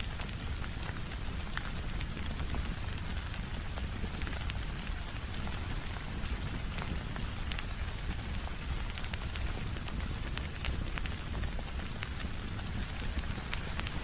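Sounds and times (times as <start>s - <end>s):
rain on a window: 0.0s - 14.0s
wood fire crackling: 0.0s - 14.0s.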